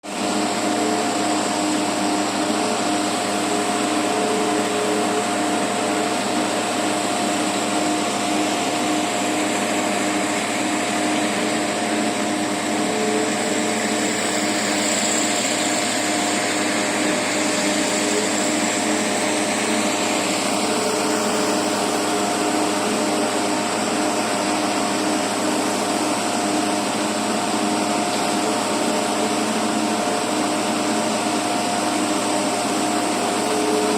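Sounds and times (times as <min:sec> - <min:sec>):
excavator motor whining: 0:00.0 - 0:33.9.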